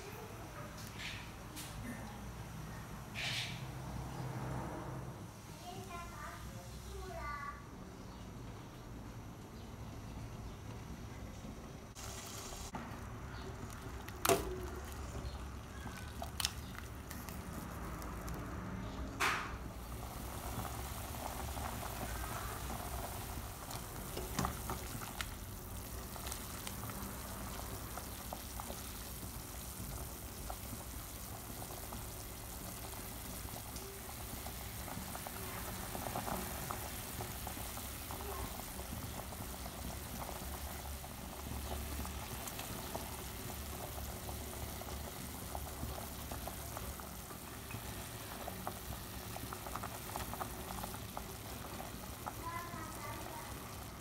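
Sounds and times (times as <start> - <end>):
water boiling in a pot: 5.3 - 54.0.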